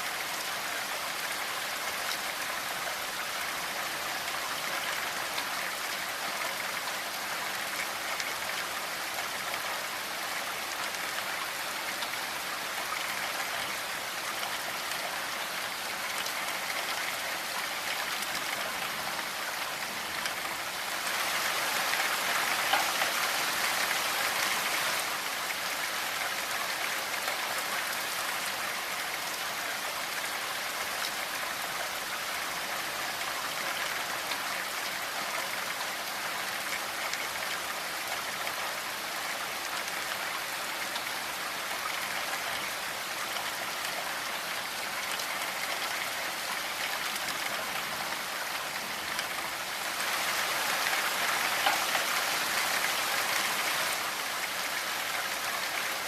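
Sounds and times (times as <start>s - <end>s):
rain drops pattering on a surface: 0.0s - 56.0s.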